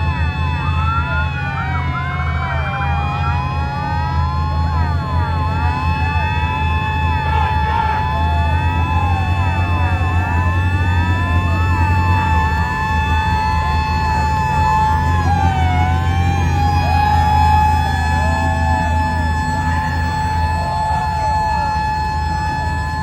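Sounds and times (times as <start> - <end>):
deep engine rumble: 0.0 - 23.0
sirens wailing: 0.0 - 23.0
steady siren tone: 0.0 - 23.0.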